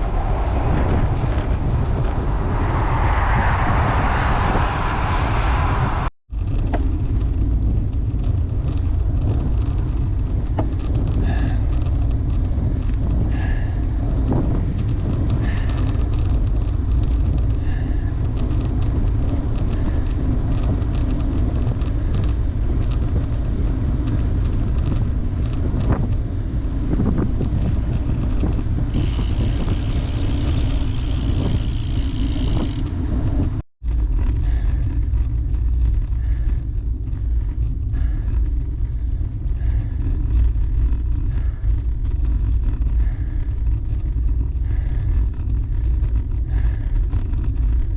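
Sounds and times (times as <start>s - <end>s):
road rumble: 0.0s - 47.9s
wind rush: 0.0s - 47.9s.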